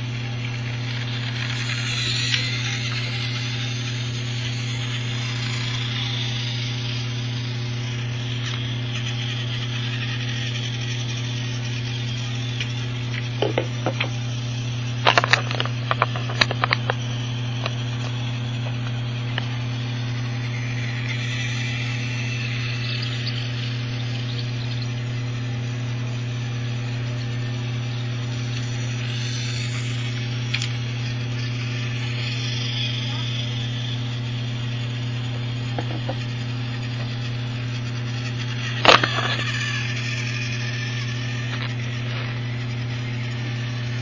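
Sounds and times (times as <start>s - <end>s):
toy train motor whirring: 0.0s - 44.0s.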